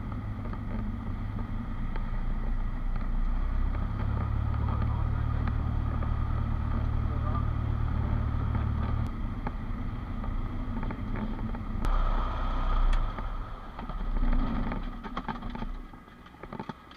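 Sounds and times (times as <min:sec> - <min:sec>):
light aircraft engine and propeller: 0:00.0 - 0:15.9.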